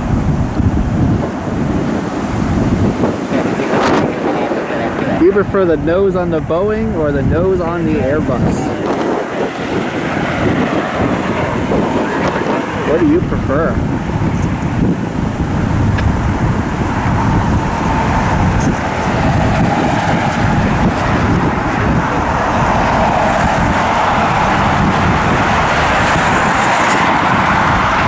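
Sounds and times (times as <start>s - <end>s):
jet engines whining and roaring: 0.0s - 28.0s
wind buffeting microphone: 0.0s - 28.0s.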